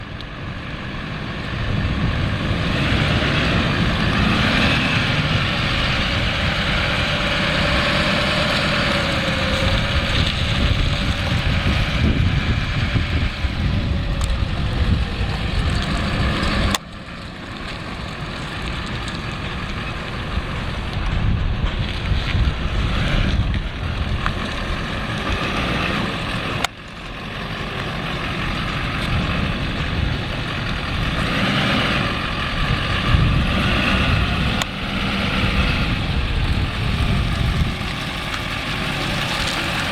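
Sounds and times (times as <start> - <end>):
diesel truck engine running: 0.0 - 39.9
wind buffeting microphone: 0.0 - 39.9.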